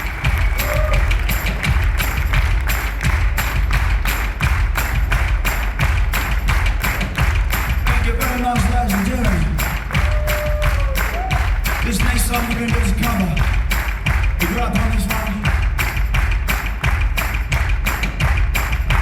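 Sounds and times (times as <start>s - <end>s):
drum kit playing live: 0.0s - 19.0s.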